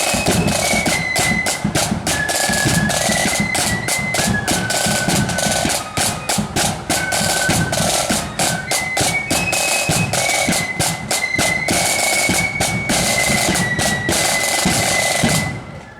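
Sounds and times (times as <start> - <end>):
marching band playing: 0.0 - 15.9
snare drum strokes: 0.0 - 15.9.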